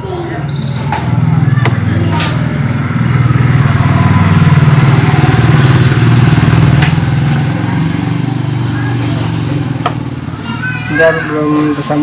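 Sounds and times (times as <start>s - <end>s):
motorcycle engine running: 0.2s - 12.0s.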